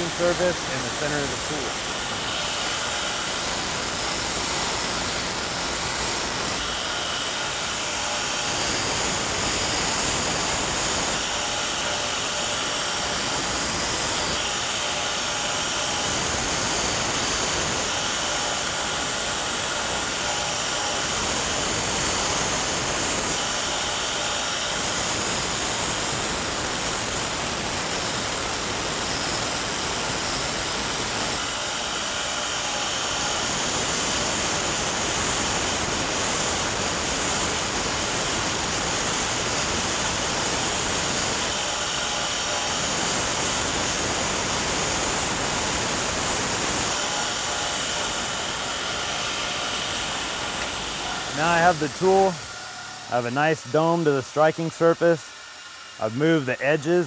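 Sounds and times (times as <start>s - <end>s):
power grinder grinding steel: 0.0s - 55.5s.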